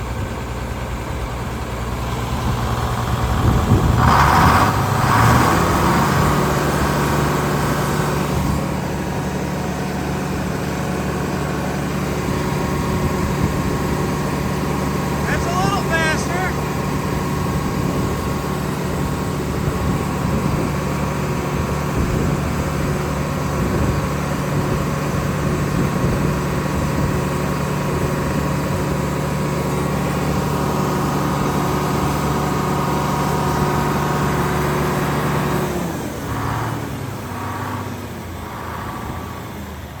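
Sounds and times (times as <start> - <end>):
sawmill engine running: 0.0 - 40.0.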